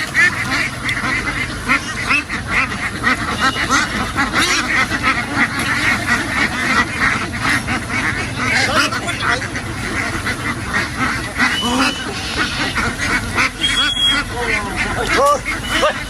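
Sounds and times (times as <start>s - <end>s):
flock of ducks quacking: 0.0s - 16.0s.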